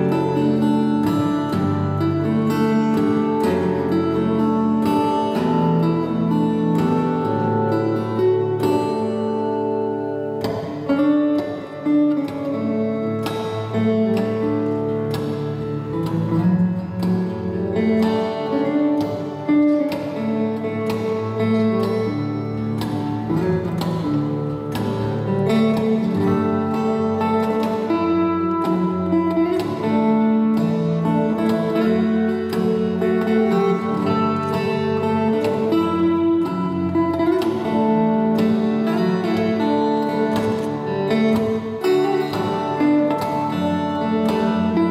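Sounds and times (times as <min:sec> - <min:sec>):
acoustic guitar playing: 0:00.0 - 0:44.9.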